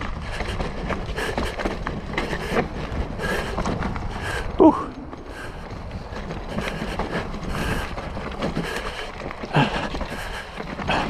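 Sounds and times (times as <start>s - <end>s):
bike rattling: 0.0s - 11.0s
bike tyres rolling over dirt: 0.0s - 11.0s
wind noise on microphone: 0.0s - 11.0s.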